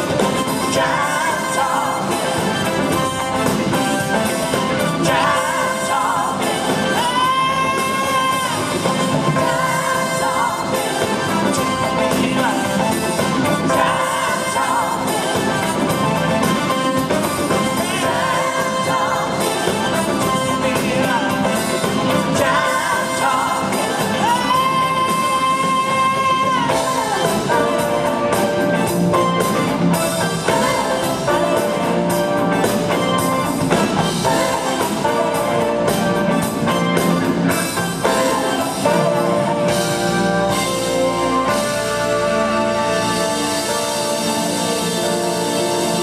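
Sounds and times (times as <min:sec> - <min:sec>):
acoustic and electric guitars: 0:00.0 - 0:46.0
bass guitar: 0:00.0 - 0:46.0
drum kit: 0:00.0 - 0:46.0
person singing lead vocal: 0:00.0 - 0:46.0.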